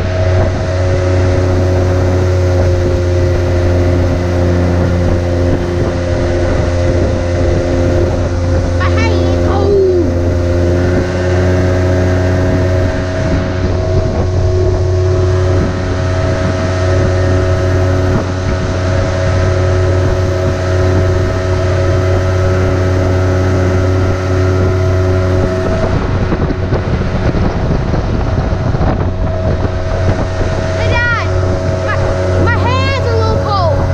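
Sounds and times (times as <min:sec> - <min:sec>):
outboard motor running: 0:00.0 - 0:33.9
water rushing along hull: 0:00.0 - 0:33.9
wind on microphone: 0:00.0 - 0:33.9.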